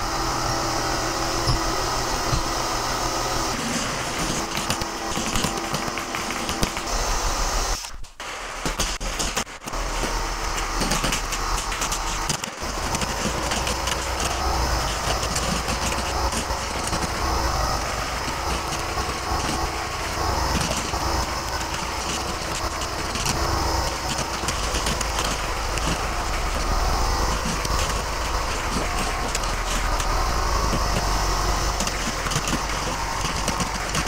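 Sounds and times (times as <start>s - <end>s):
air compressor running: 0.0s - 34.0s.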